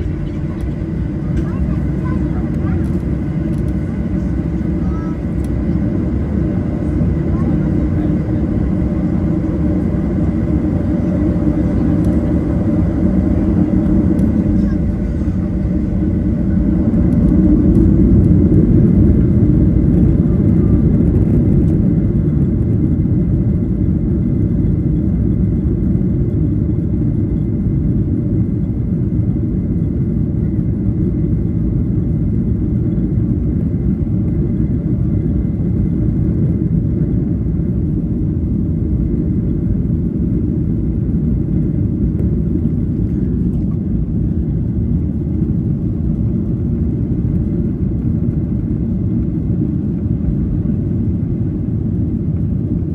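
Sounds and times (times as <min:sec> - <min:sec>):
jet engine roar in cabin: 0:00.0 - 0:52.9.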